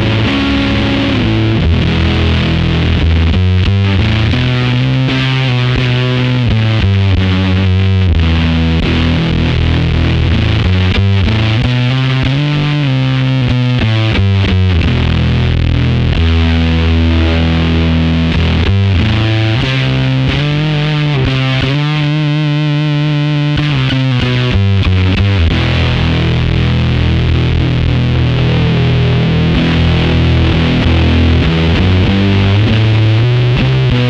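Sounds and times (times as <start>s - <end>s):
distorted electric guitar: 0.0s - 34.0s.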